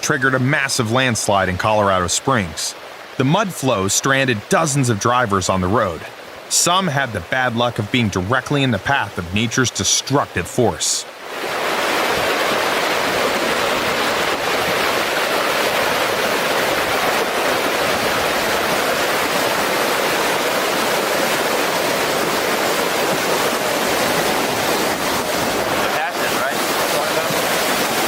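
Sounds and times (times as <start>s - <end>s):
mud flow rushing: 0.0s - 28.0s.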